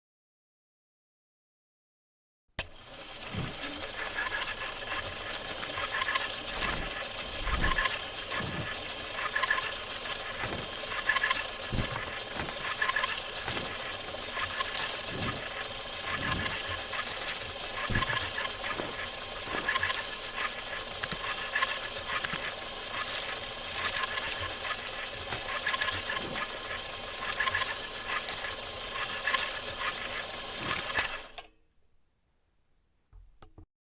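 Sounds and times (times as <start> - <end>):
film projector clatter: 2.6 - 31.5
hiss: 3.2 - 31.2.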